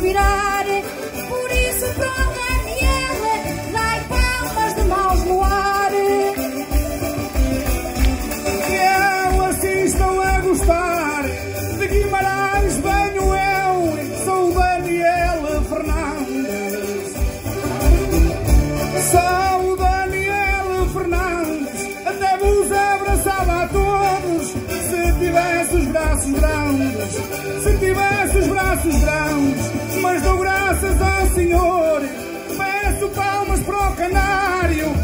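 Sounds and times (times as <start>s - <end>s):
accordion melody: 0.0s - 35.0s
strummed small guitar: 0.0s - 35.0s.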